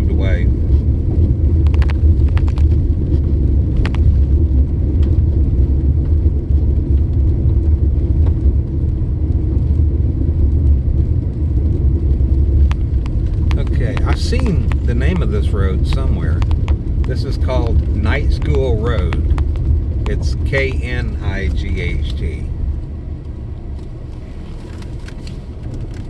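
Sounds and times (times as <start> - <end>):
car driving rumble: 0.0 - 26.0.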